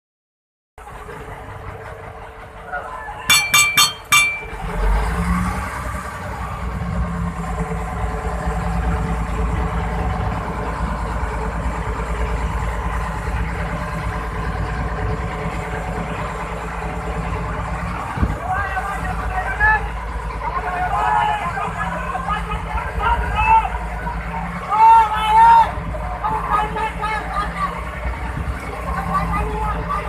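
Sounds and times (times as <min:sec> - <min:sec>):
boat engine droning: 0:00.8 - 0:30.0.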